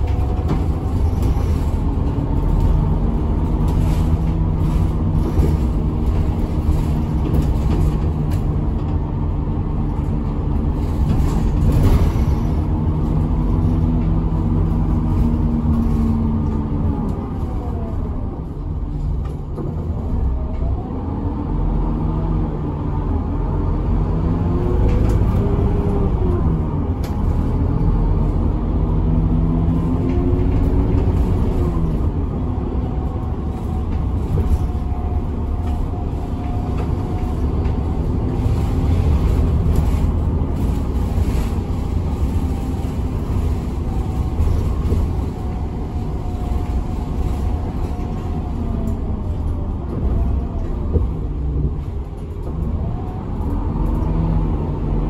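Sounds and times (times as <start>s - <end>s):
bus engine: 0.0s - 55.0s
road noise rumble: 0.0s - 55.0s.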